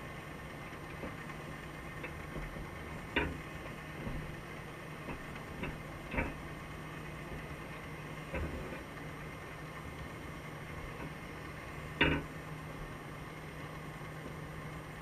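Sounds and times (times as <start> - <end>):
low underwater hum: 0.0 - 15.0.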